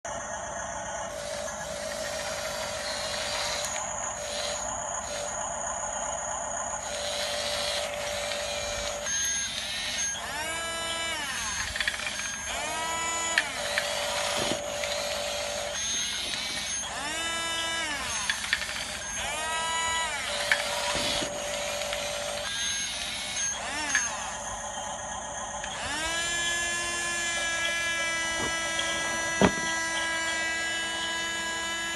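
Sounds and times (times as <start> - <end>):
small electric motor whining: 0.1 - 31.9.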